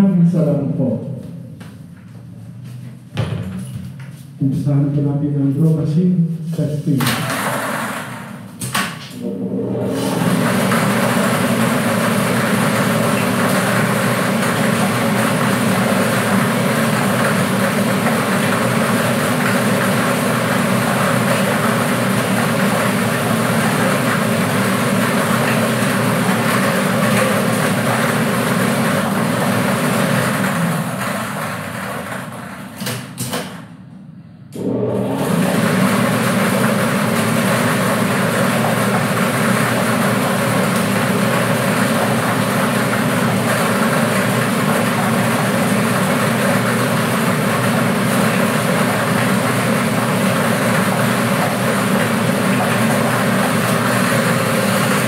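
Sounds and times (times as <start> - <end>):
air blower roaring: 6.8 - 33.4, 34.1 - 55.0.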